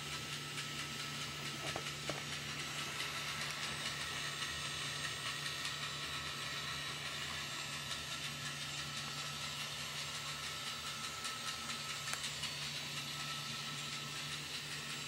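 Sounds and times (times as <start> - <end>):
toy train motor whine: 0.0 - 15.0
wheels clicking on track: 0.0 - 15.0.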